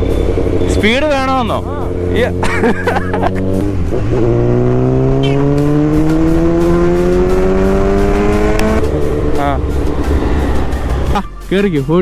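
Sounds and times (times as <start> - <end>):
motorcycle engine accelerating: 0.0 - 11.2.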